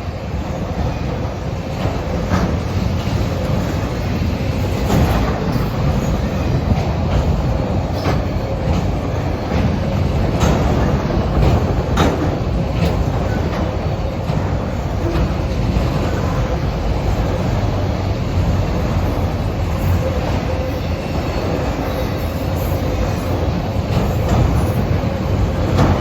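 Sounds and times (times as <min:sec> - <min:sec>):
train wheels rumbling on rail: 0:00.0 - 0:26.0
wheels clacking over track joints: 0:00.6 - 0:26.0.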